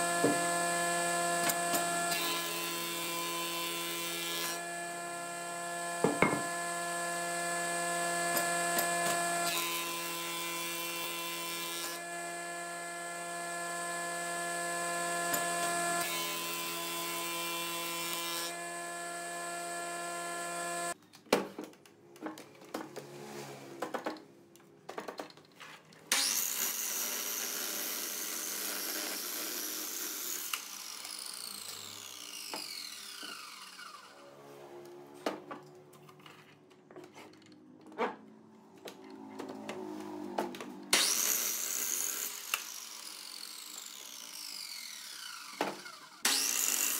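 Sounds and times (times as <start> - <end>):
miter saw whining: 0.0 - 21.0, 26.1 - 35.2, 38.8 - 46.9.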